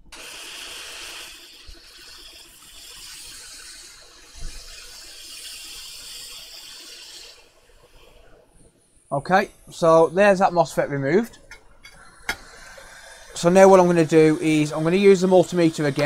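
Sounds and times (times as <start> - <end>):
hot air blower hissing: 0.0 - 8.4, 9.1 - 16.0.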